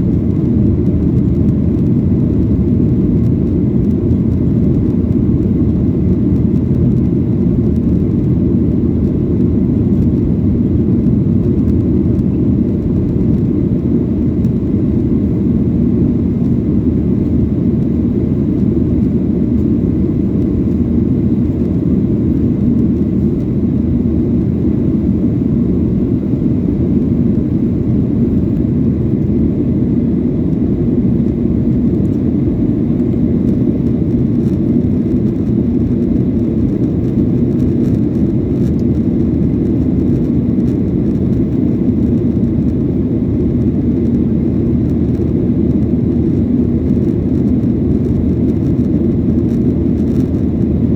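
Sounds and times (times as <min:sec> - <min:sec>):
jet airliner cabin rumble: 0:00.0 - 0:50.9.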